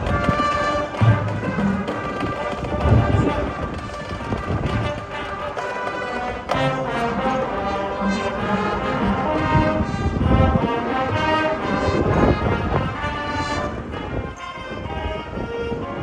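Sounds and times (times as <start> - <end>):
brass chords: 0.0 - 16.0
marching band playing: 0.0 - 16.0.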